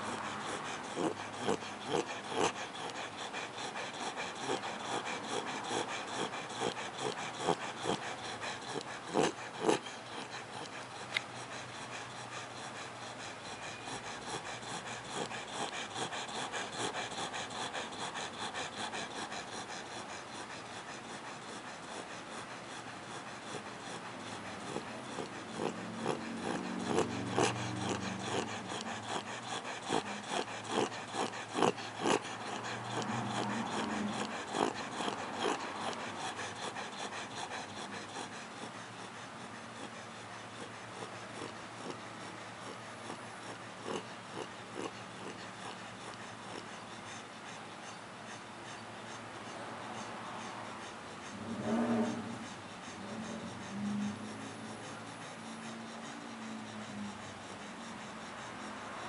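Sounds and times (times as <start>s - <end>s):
puppy snoring: 0.0s - 59.0s.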